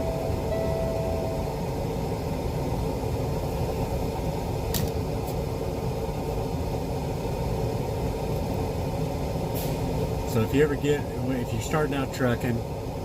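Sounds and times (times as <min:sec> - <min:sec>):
heater fan blowing: 0:00.0 - 0:13.0.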